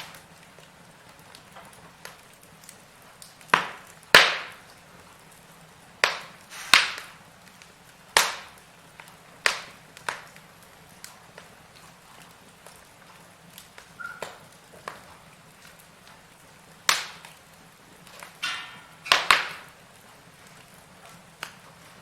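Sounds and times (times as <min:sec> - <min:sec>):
faint steady hiss: 0:00.0 - 0:22.0
firewood crackling and popping: 0:00.0 - 0:22.0.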